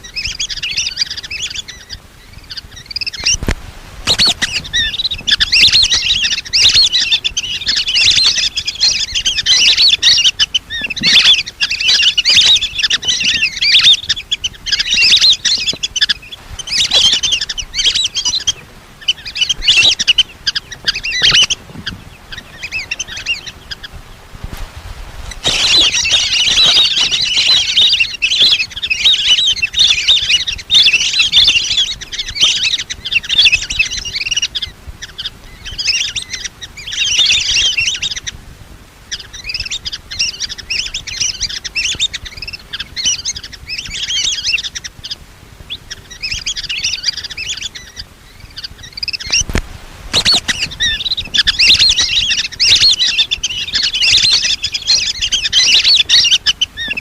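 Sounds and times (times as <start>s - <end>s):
ducks whistled chirping calls: 0.0s - 24.6s, 25.2s - 38.4s, 39.0s - 57.0s.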